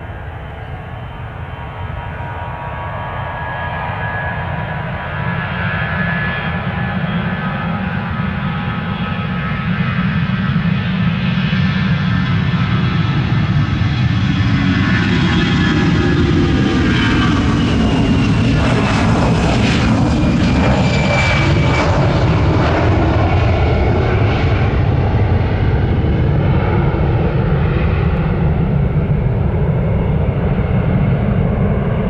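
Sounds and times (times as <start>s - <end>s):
jet airliner taking off: 0.0s - 32.0s.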